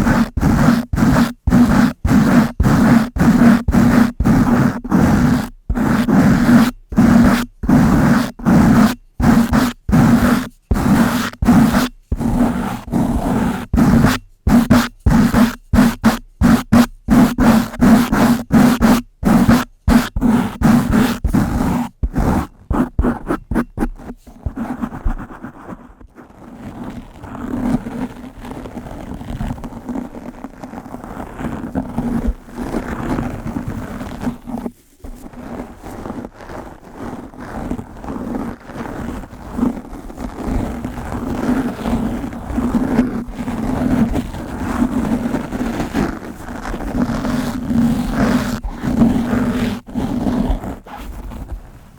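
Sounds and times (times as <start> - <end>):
brush scratching microphone: 0.0 - 51.9.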